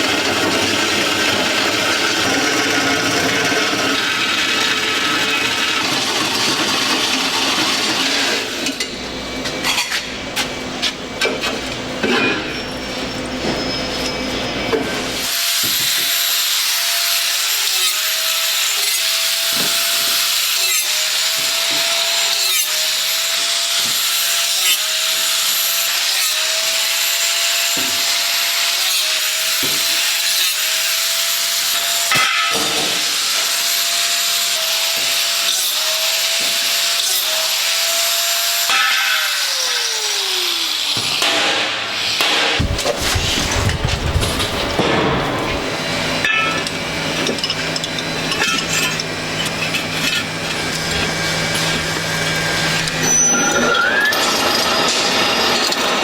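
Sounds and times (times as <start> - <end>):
electric power tool running: 0.0 - 8.8, 15.1 - 44.8, 45.6 - 56.0.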